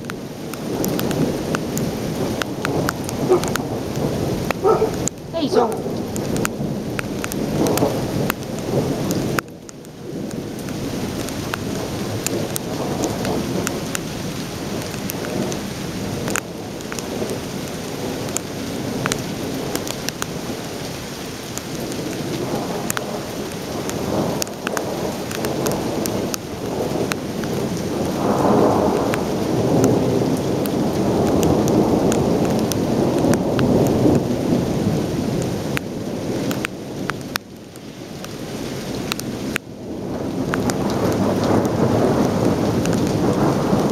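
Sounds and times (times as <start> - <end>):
thunder rumbling: 0.0 - 20.9, 21.7 - 37.4, 39.1 - 43.9
heavy rain: 0.0 - 43.9
raindrops clicking on camera: 0.0 - 43.9.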